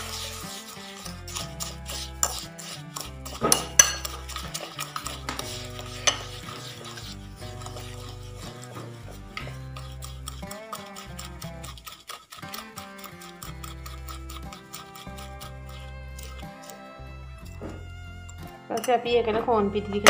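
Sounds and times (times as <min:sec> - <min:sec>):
fork whisking in a glass bowl: 0:00.0 - 0:19.0
background music: 0:00.0 - 0:20.0.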